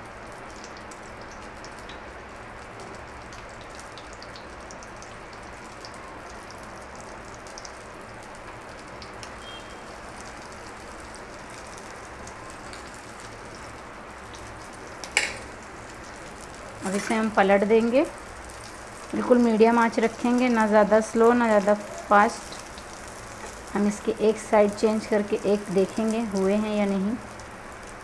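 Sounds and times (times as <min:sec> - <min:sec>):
small crackles: 0:00.5 - 0:17.4, 0:21.6 - 0:28.0
food sizzling in oil: 0:00.7 - 0:28.0.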